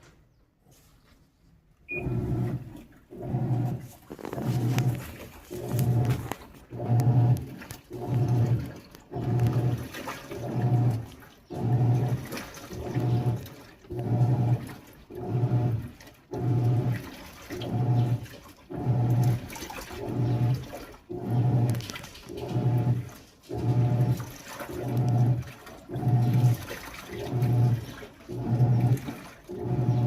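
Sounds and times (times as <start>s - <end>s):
water and clothes sloshing: 0.6s - 30.0s
washing machine motor hum: 1.9s - 30.0s.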